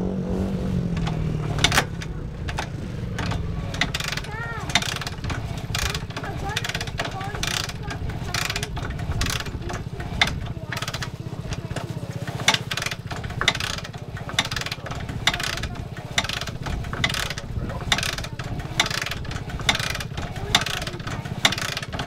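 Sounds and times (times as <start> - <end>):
low engine rumble: 0.0 - 22.0
motorcycle kick-start: 0.0 - 22.0.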